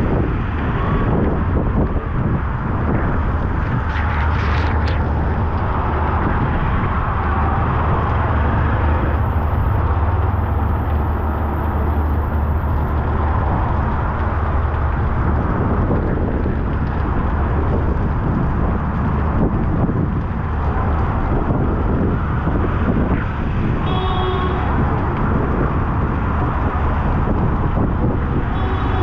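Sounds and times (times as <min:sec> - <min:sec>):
heavy rain on a street: 0:00.0 - 0:29.0
low rumble: 0:00.0 - 0:29.0.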